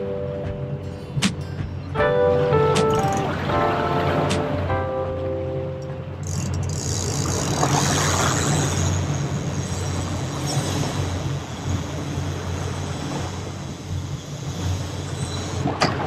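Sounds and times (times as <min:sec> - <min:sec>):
boat motor humming: 0:00.0 - 0:16.0
wind and water rushing: 0:00.0 - 0:16.0.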